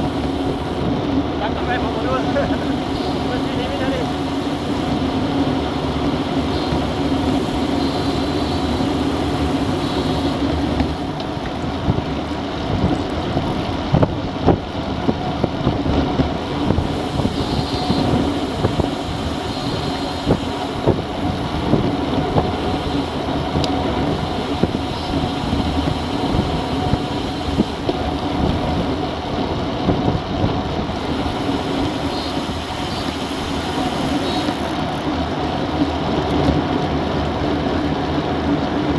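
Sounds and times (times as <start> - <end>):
tyre and road rumble: 0.0 - 38.9
wind rushing over microphone: 0.0 - 38.9.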